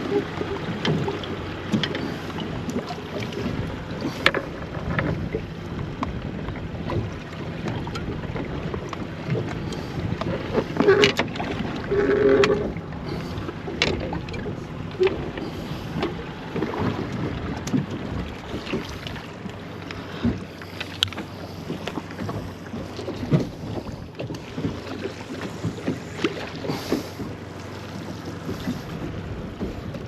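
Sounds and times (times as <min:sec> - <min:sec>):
water sloshing against hull: 0:00.0 - 0:30.0
wind buffeting microphone: 0:00.0 - 0:30.0.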